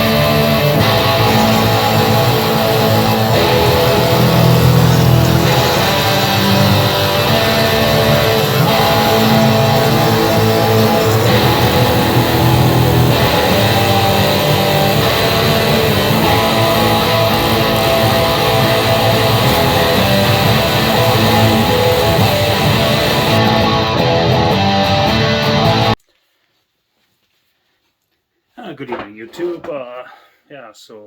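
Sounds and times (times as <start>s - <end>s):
guitar rock music: 0.0s - 26.0s.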